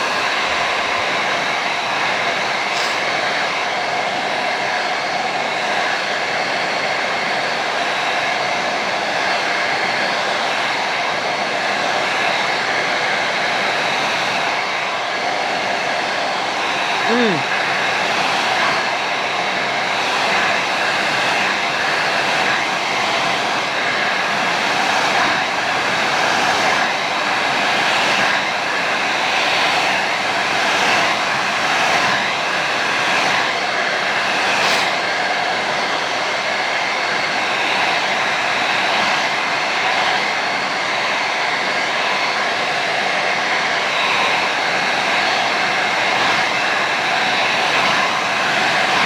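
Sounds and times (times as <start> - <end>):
blow dryer running: 0.0 - 49.0.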